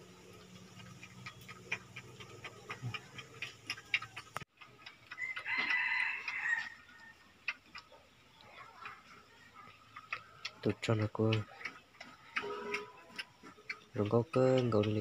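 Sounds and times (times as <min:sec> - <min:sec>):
porcupine call: 0:00.0 - 0:15.0
porcupine chewing crunches: 0:00.0 - 0:15.0.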